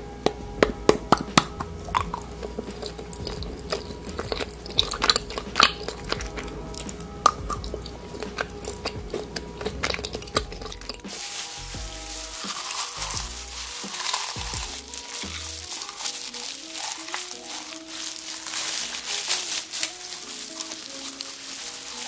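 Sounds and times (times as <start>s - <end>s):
crunchy chewing of sweets: 0.0s - 22.0s
faint background music: 0.0s - 22.0s.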